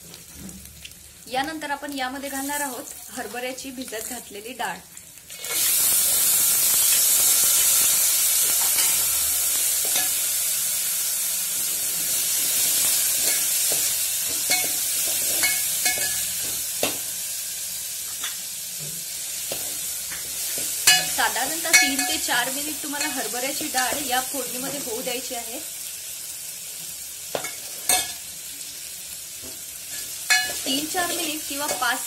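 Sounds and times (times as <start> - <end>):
lentils sizzling in oil: 0.0 - 32.0.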